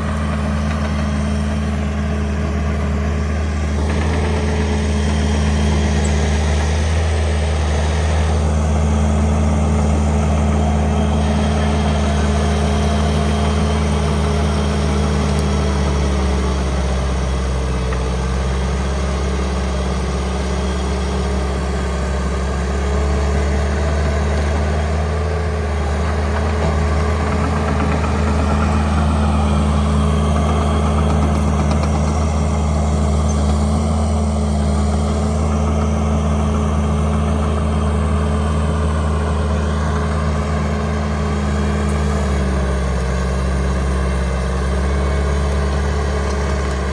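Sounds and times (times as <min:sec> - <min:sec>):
engine running with deep hum: 0:00.0 - 0:46.9.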